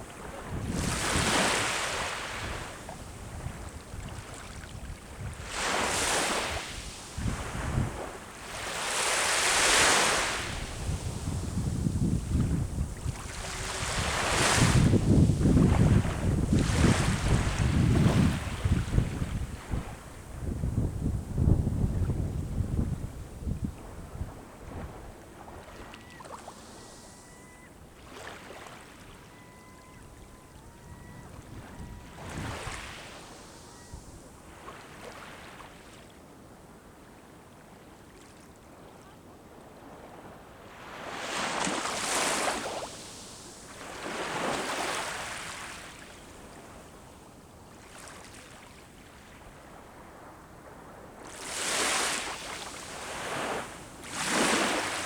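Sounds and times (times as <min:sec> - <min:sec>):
sea waves breaking on shore: 0:00.0 - 0:20.6, 0:23.7 - 0:36.2, 0:39.7 - 0:55.0.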